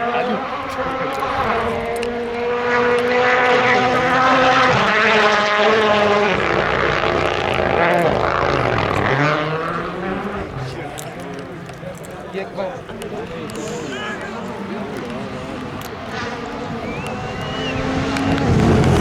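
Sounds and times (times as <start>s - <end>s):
rally car engine running hard: 0.0s - 19.0s.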